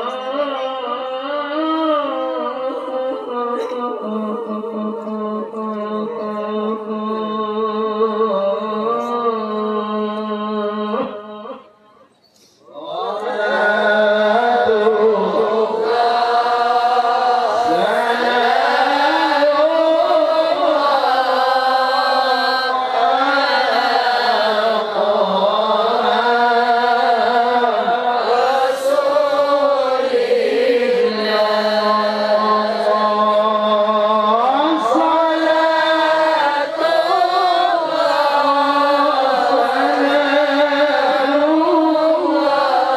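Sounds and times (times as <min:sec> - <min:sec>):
man reciting melodically: 0:00.0 - 0:42.9.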